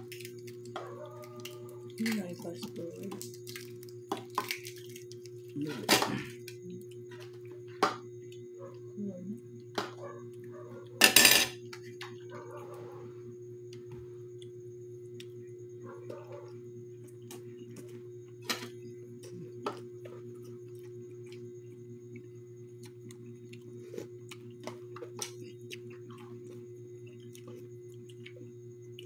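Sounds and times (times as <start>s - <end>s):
hum: 0.0s - 29.0s.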